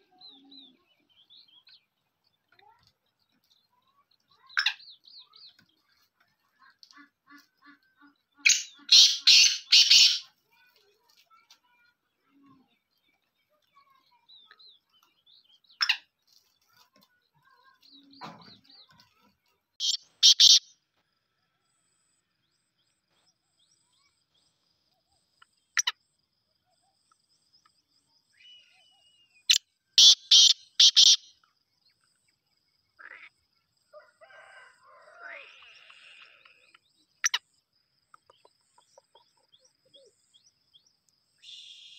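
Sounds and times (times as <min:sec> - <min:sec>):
faint small-bird chirps: 0:00.0 - 0:41.9.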